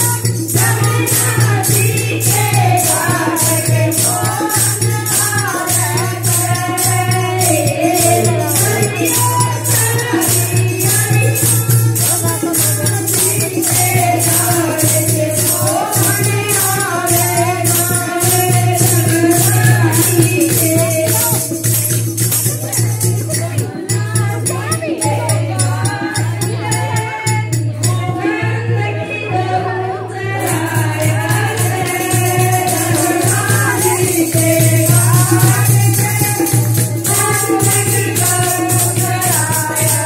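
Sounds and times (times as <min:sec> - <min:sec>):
jingling hand percussion: 0:00.0 - 0:40.0
women singing into a microphone: 0:00.0 - 0:40.0.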